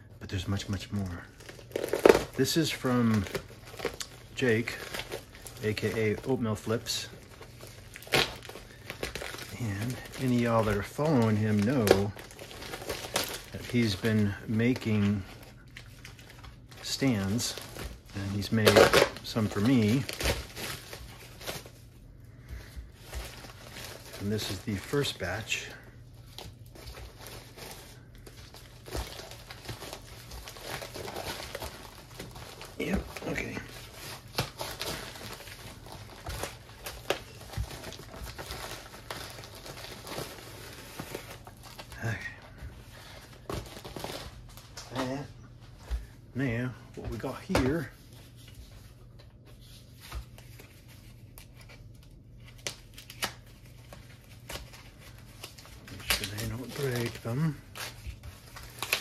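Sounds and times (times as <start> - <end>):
packaging crinkling: 0.3 - 59.0.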